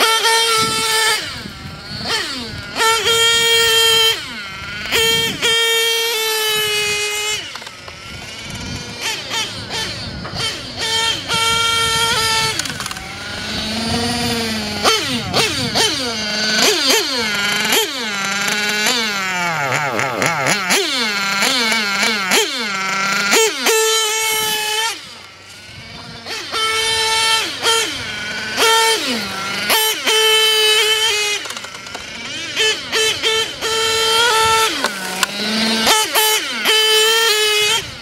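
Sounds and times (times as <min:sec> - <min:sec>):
rc car motor buzzing: 0:00.0 - 0:38.0.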